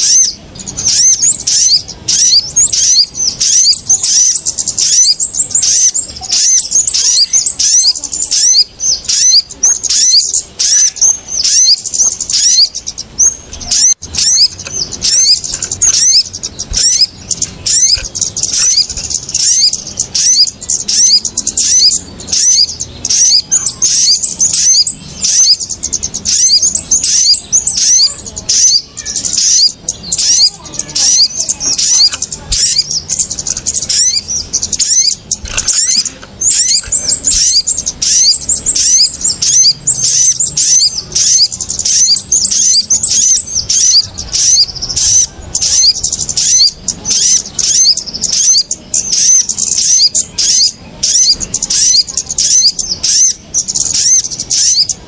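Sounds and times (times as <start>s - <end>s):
shrill small bird chirps: 0.0s - 55.0s.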